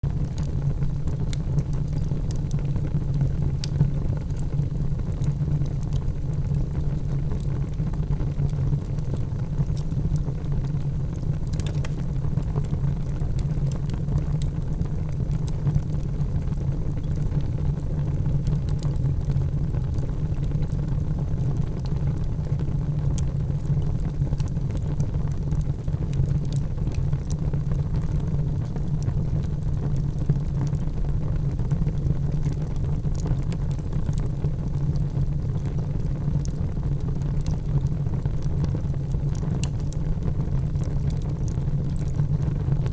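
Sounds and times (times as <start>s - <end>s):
wood fire crackling and popping: 0.1s - 42.9s.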